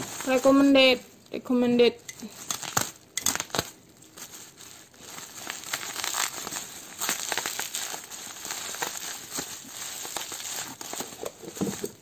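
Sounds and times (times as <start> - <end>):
bubble wrap crinkling and crackling: 0.0 - 12.0.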